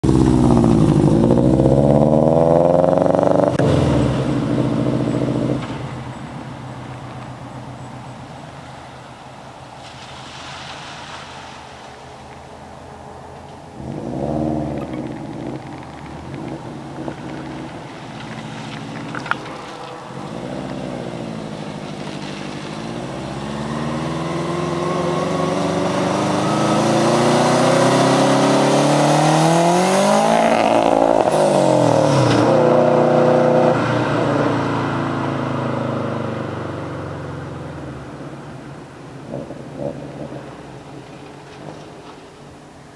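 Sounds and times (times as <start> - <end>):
car engine revving: 0.0 - 7.9, 13.7 - 42.8.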